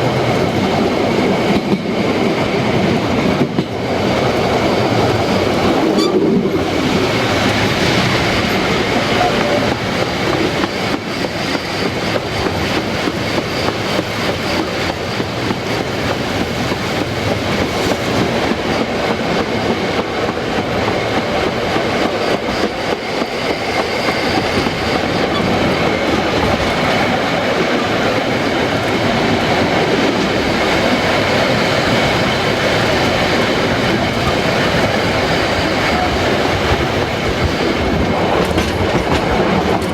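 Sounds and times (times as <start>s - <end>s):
steam train rumbling and clattering: 0.0s - 39.9s.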